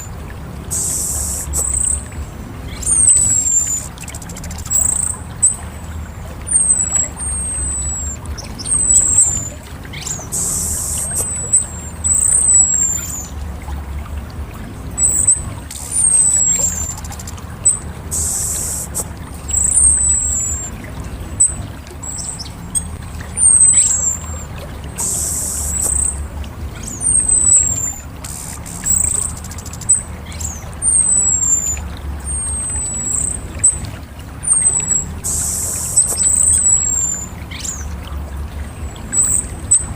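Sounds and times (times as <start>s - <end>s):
low hum: 0.0s - 39.9s
thrush calling: 0.0s - 39.9s.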